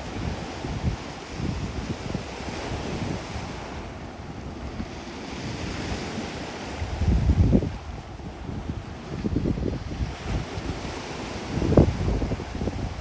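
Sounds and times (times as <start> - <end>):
waves breaking on shore: 0.0 - 13.0
wind buffeting microphone: 0.0 - 13.0.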